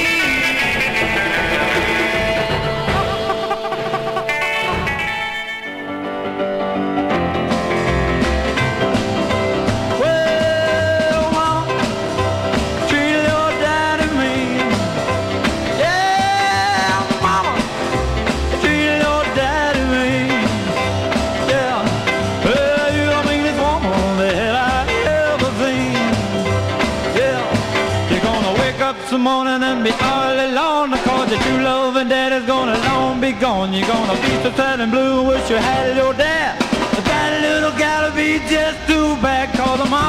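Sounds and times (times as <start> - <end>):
rock and roll music: 0.0 - 40.0.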